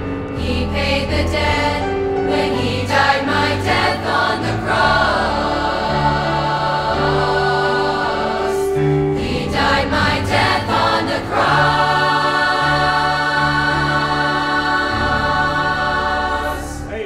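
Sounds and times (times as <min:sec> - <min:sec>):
choir singing in harmony: 0:00.3 - 0:17.0.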